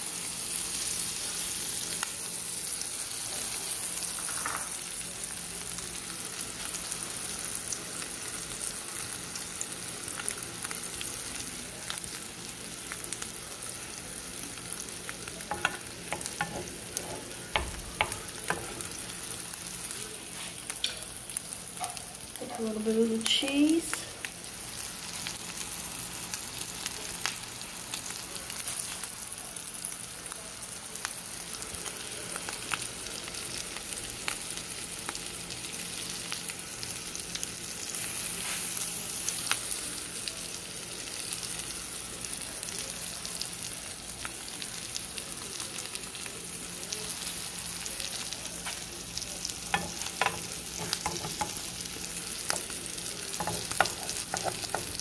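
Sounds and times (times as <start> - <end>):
egg sizzling in skillet: 0.0 - 22.4, 23.2 - 55.0.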